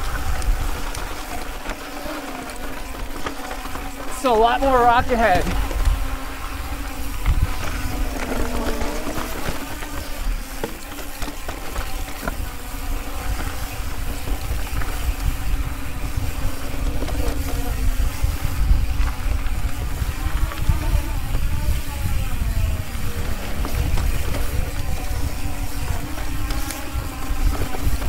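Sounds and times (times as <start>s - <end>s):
wind buffeting microphone: 0.0s - 2.1s, 3.8s - 28.0s
mountain bike rattling over rock: 0.0s - 28.0s.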